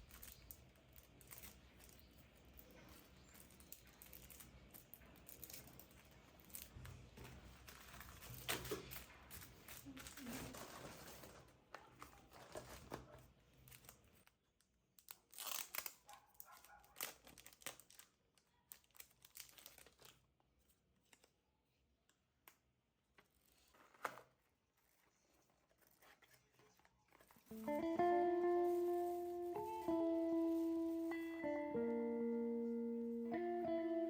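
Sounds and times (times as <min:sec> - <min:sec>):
crinkling and rustling: 0:00.0 - 0:22.2, 0:23.0 - 0:31.6.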